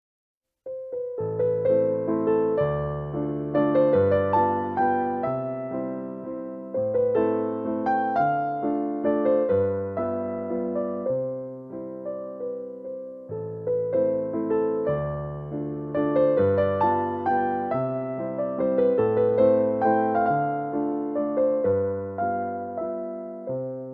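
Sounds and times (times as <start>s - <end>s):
soft electric piano music: 0.7s - 23.9s.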